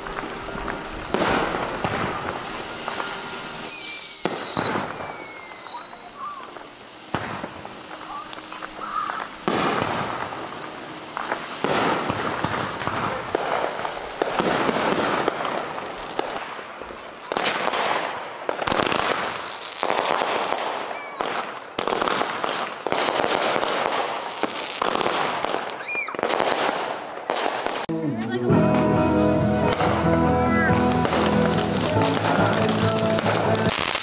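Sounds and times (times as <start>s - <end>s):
fireworks bangs: 0.0s - 34.0s
fireworks crackling: 0.0s - 34.0s
hissing fountain firework: 0.0s - 34.0s.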